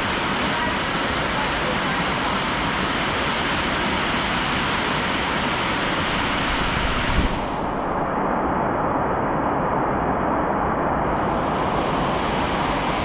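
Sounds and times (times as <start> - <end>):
steady loud rushing noise: 0.0 - 13.0.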